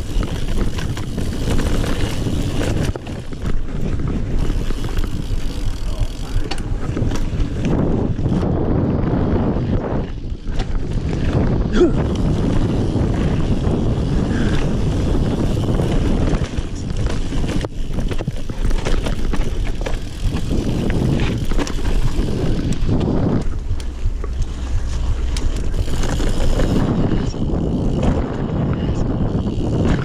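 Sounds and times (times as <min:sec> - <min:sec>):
bike rattling over bumps: 0:00.0 - 0:30.0
bike tyre noise: 0:00.0 - 0:30.0
wind rush on microphone: 0:00.0 - 0:30.0.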